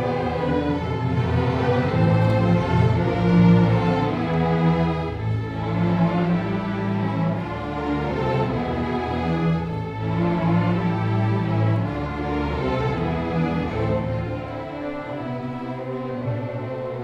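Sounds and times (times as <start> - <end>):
orchestra bowed strings: 0.0 - 17.0.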